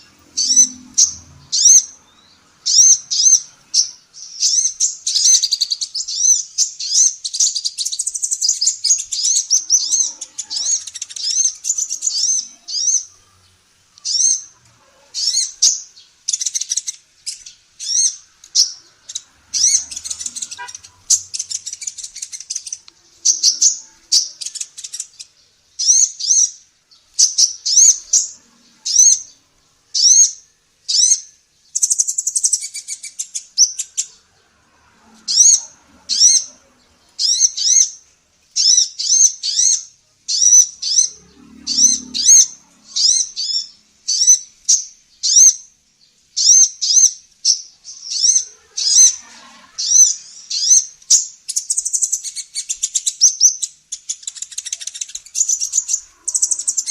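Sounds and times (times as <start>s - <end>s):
rapid buzzy bird trills: 0.0s - 56.9s
sunbird high chirps: 0.0s - 56.9s.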